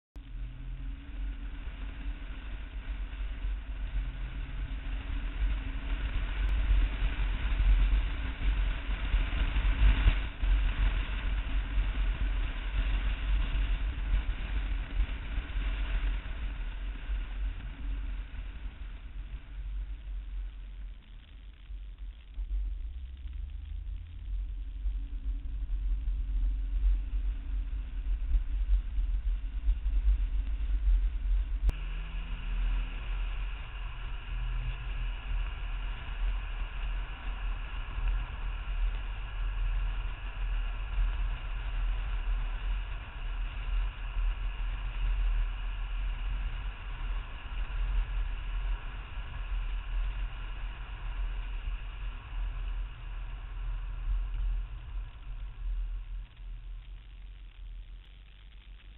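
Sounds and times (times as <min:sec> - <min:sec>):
wind rumble: 0:00.0 - 0:58.9
car engine: 0:00.2 - 0:57.6
road and tyre hiss: 0:00.2 - 0:58.1.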